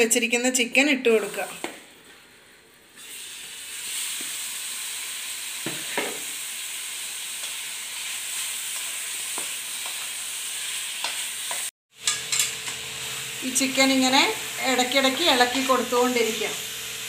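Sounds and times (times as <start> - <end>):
chicken sizzling in hot oil: 1.1 - 17.0.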